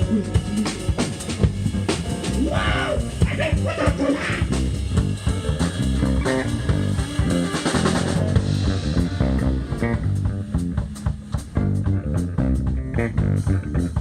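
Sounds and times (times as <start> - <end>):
bending guitar phrases: 0.0 - 14.0
rock band playing: 0.0 - 14.0.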